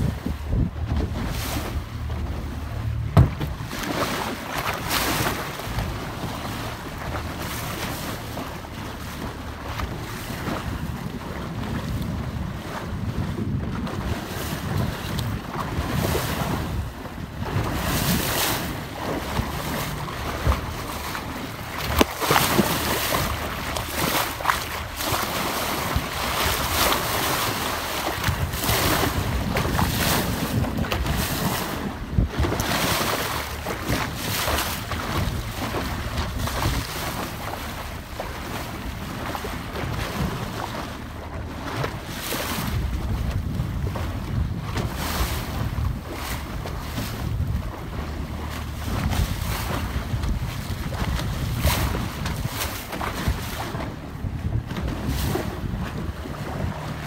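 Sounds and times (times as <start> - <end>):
sea water washing along boat: 0.0 - 57.0
water splashes: 0.0 - 57.0
wind buffeting microphone: 0.0 - 57.0.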